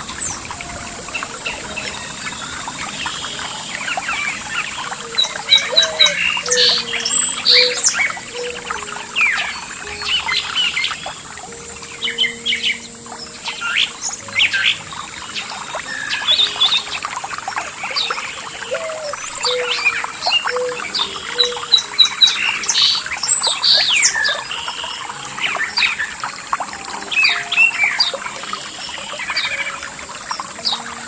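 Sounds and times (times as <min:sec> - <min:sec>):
songbirds chirping and whistling: 0:00.0 - 0:31.0
trickle of running water: 0:00.0 - 0:31.0.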